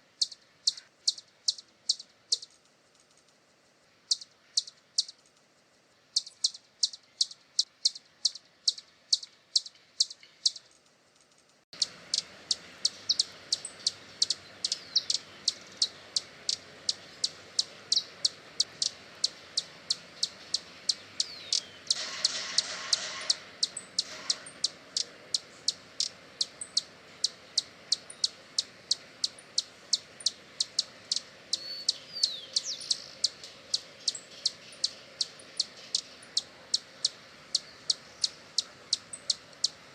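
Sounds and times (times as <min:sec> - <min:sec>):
hummingbird chip calls: 0:00.0 - 0:02.6, 0:04.0 - 0:05.2, 0:06.1 - 0:10.8, 0:11.8 - 0:39.9
background hiss: 0:00.0 - 0:39.9.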